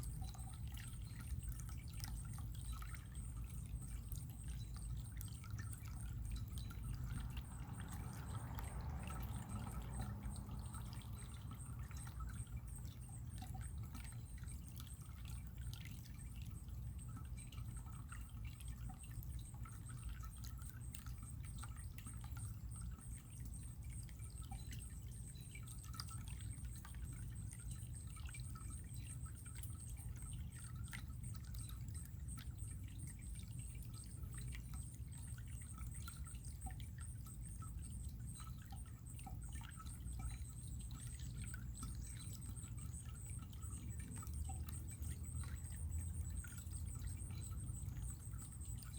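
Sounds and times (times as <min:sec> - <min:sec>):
water trickling and dripping: 0:00.0 - 0:48.9.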